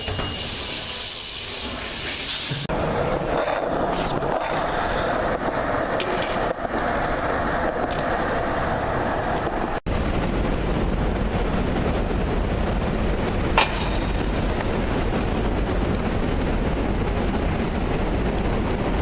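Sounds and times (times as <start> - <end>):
traffic rumble: 2.6 - 19.0.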